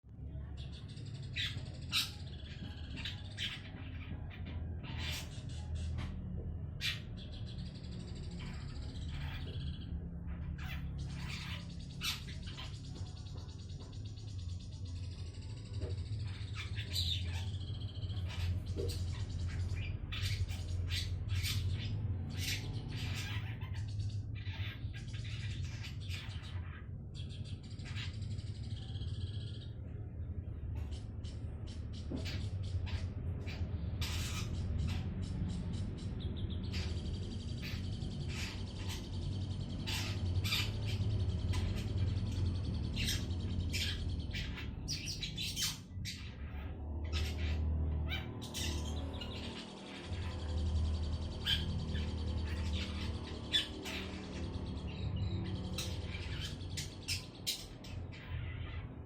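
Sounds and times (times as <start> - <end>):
steady low hum: 0.0 - 59.0
bird harsh chirps and squawks: 0.2 - 59.0.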